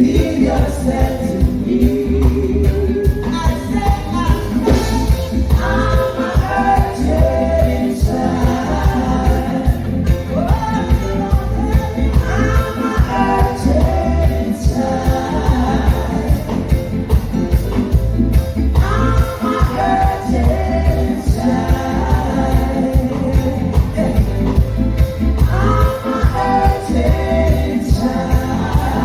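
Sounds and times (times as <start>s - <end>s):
person singing: 0.0s - 17.6s, 18.6s - 29.0s
live reggae band: 0.0s - 29.0s.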